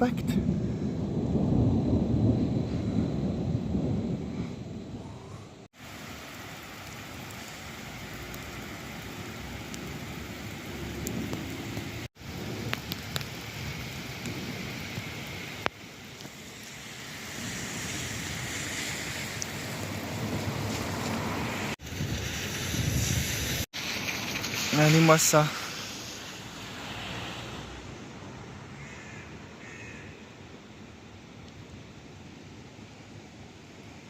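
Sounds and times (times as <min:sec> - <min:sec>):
steady rain: 0:00.0 - 0:34.0
wind: 0:00.0 - 0:34.0.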